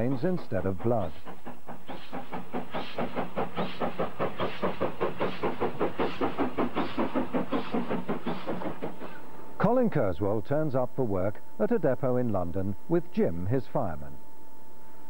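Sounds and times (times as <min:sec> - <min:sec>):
steam locomotive chuffing: 0:00.0 - 0:14.1.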